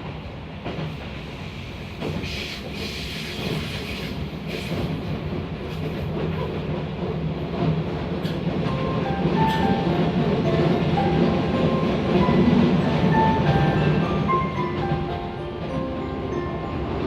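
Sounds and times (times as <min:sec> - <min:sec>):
train clattering: 0:00.0 - 0:17.0
train wheels rumbling on rails: 0:00.0 - 0:17.0.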